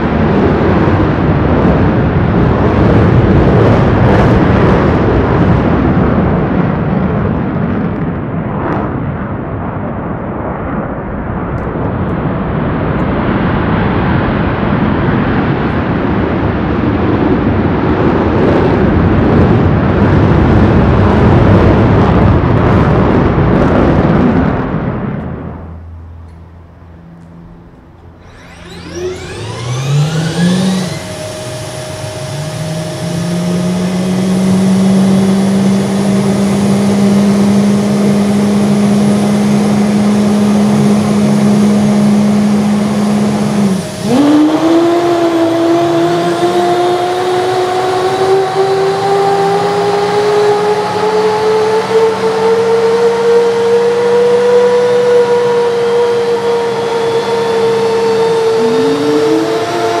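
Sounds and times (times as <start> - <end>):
jet engine turbine whine: 0.0 - 9.2, 10.0 - 60.0.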